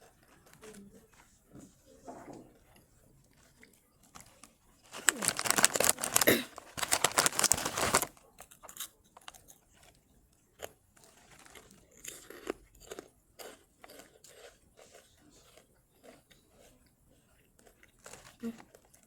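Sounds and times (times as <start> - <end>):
corn snack crunching: 3.3 - 19.0.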